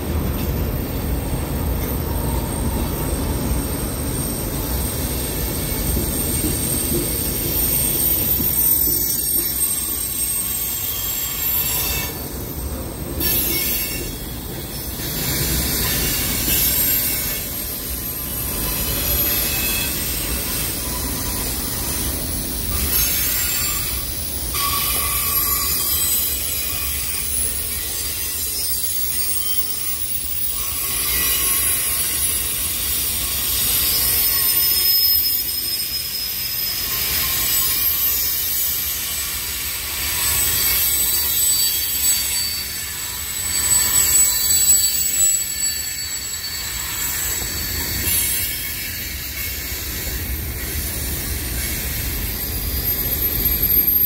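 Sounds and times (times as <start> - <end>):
train wheels rumbling on rail: 0.0 - 54.0
high-pitched wheel squeal: 1.9 - 12.4, 13.2 - 54.0.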